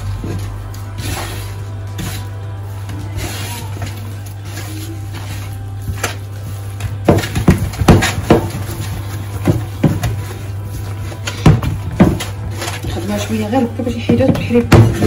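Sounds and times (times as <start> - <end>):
hand kneading dough in a bowl: 0.0 - 15.0
low steady hum: 0.0 - 15.0.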